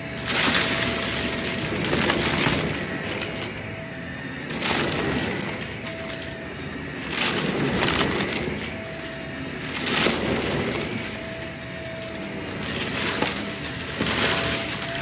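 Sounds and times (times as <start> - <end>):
crunching of flakes being sucked up: 0.0 - 15.0
vacuum cleaner motor whining: 0.0 - 15.0.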